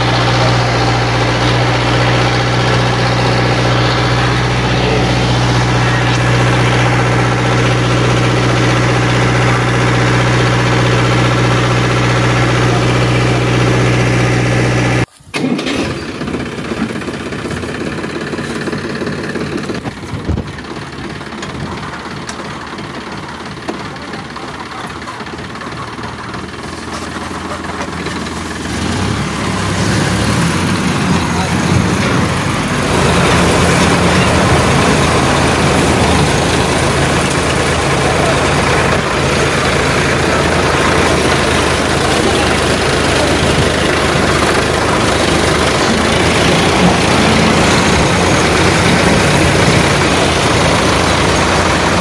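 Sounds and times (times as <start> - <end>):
rough engine running: 0.0 - 52.0
vehicle engine idling: 0.0 - 52.0.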